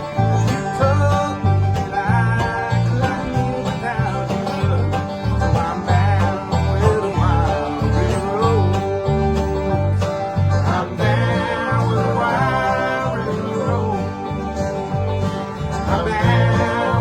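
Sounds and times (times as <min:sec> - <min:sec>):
banjo rolls: 0:00.0 - 0:17.0
guitars: 0:00.0 - 0:17.0
upright bass thumping: 0:00.0 - 0:17.0.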